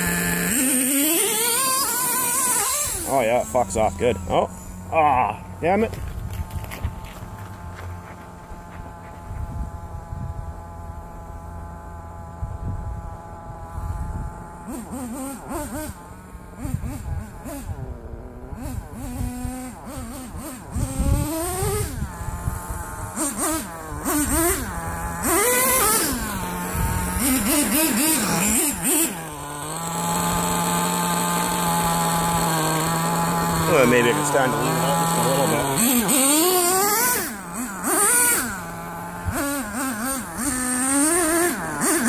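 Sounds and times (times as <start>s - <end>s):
rc truck nitro engine revving: 0.0s - 42.0s.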